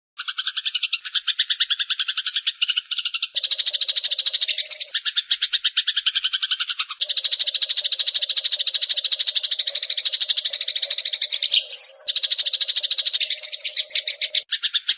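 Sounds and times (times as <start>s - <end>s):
sparrows chattering calls: 0.2s - 14.9s.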